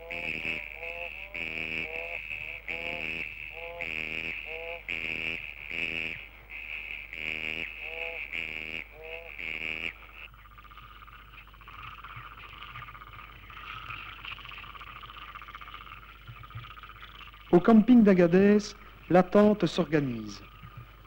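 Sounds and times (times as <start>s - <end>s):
frogs croaking: 0.0s - 21.0s
trilling frog chorus: 0.0s - 21.0s.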